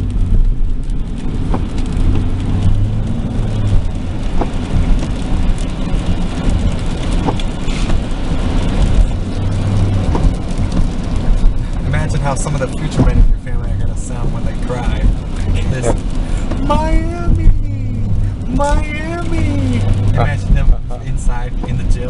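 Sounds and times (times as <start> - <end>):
car engine and tyres hum: 0.0 - 22.0.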